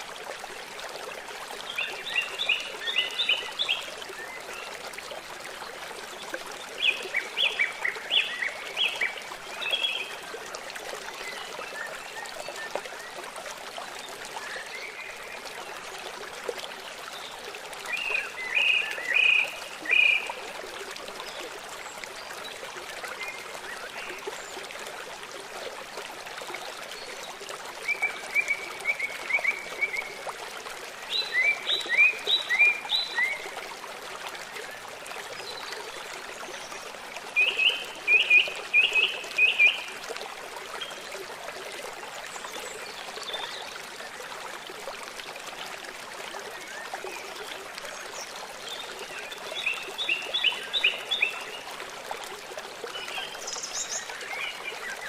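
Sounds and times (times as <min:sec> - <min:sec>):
forest stream rushing: 0:00.0 - 0:55.0.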